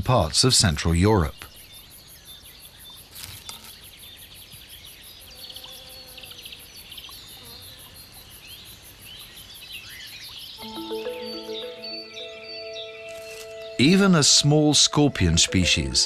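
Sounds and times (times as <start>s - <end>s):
insects chirping: 0.4s - 16.0s
small birds calling: 1.0s - 16.0s.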